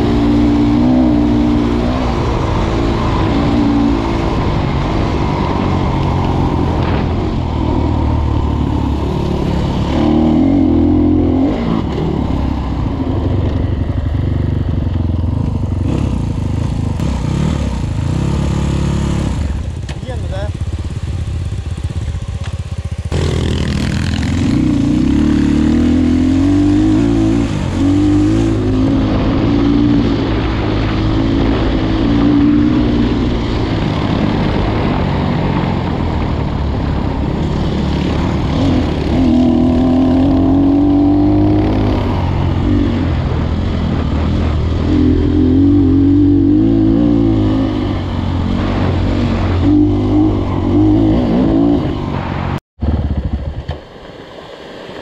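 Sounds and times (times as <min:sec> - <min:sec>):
motorcycle engine revving: 0:00.0 - 0:53.8.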